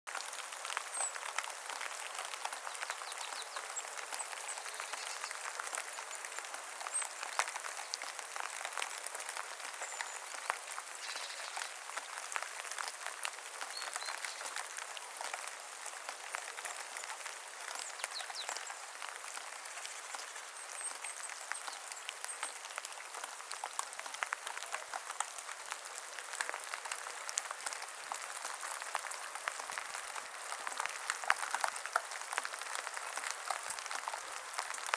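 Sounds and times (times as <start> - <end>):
rain falling in forest: 0.1 - 34.9.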